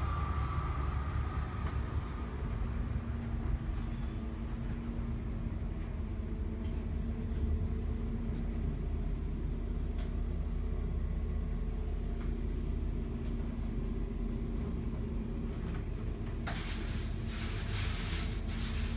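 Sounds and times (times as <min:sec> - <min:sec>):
low machine hum: 0:00.0 - 0:18.9.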